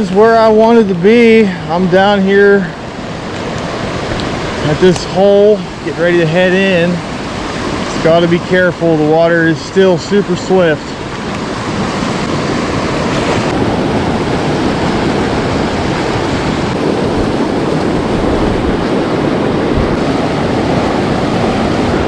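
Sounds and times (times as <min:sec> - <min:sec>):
creek rushing: 0:00.0 - 0:22.0.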